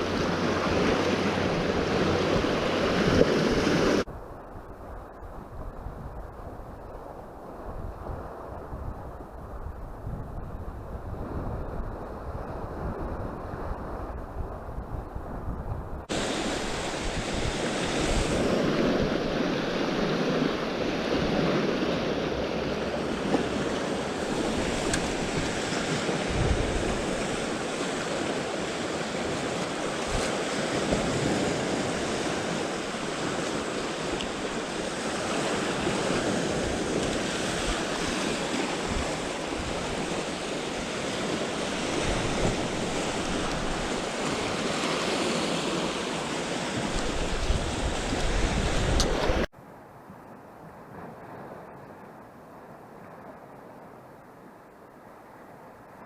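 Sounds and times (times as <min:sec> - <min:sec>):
sea waves washing on shore: 0:00.0 - 0:49.5
wind buffeting microphone: 0:00.0 - 0:49.5.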